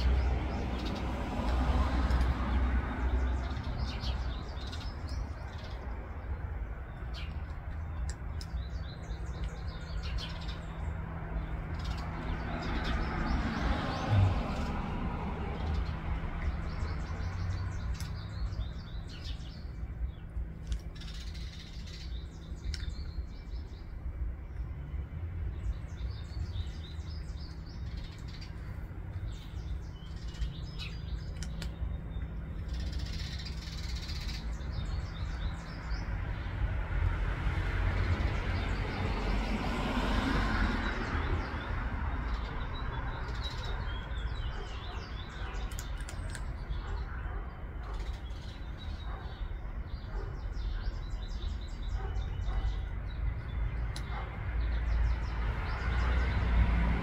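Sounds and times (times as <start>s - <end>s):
small birds chirping: 0.0s - 37.3s, 40.2s - 57.0s.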